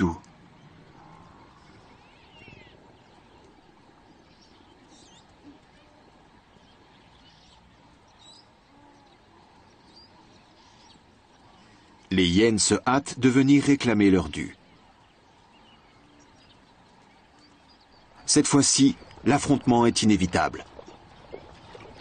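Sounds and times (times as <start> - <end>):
faint open-air ambience: 0.0 - 22.0.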